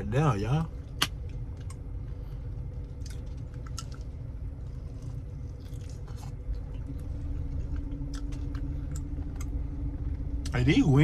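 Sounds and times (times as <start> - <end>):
steady low hum: 0.0 - 11.0
chewing and crunching: 0.7 - 10.6.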